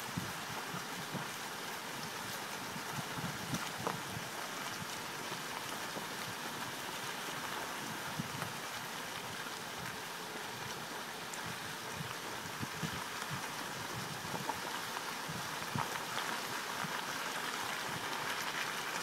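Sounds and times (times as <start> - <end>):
tyres rolling on wet gravel: 0.0 - 19.0.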